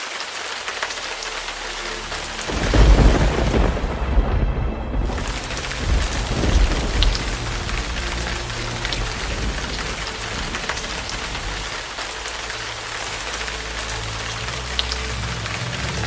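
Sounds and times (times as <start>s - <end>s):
steady rain falling: 0.0s - 16.0s
low rumble of thunder: 2.4s - 16.0s.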